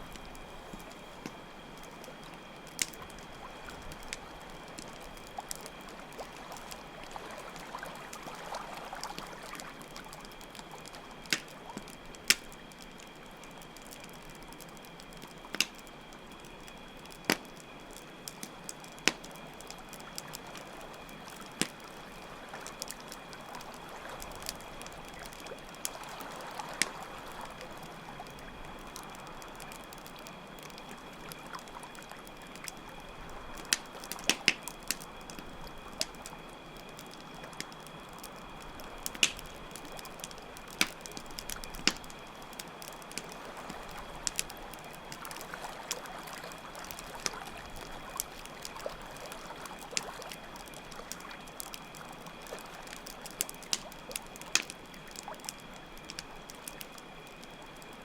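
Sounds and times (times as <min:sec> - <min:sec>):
campfire crackling and popping: 0:00.0 - 0:58.0
crickets chirring: 0:00.0 - 0:58.0.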